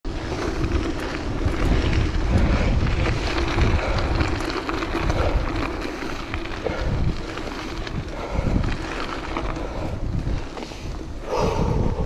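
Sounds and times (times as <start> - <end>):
tyres rolling on gravel: 0.1 - 12.0
wind buffeting microphone: 0.1 - 12.0.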